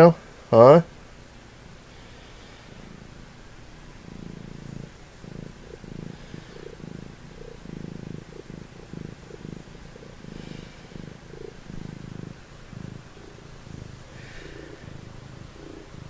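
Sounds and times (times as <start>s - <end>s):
cat purring: 1.4s - 16.0s.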